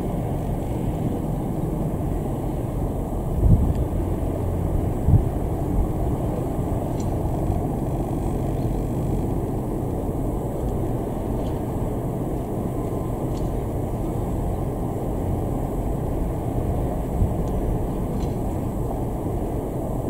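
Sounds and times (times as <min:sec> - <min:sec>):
helicopter engines and rotor rumble: 0:00.0 - 0:20.0.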